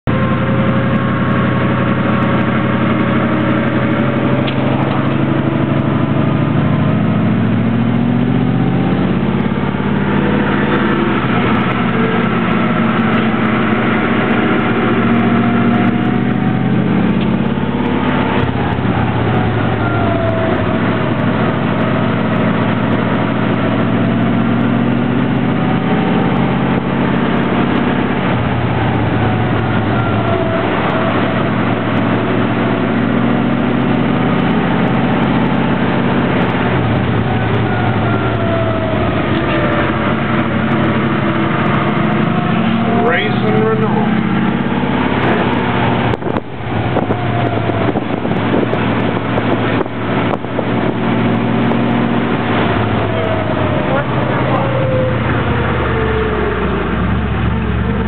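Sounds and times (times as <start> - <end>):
car engine: 0.0 - 58.0
road noise inside car: 0.0 - 58.0.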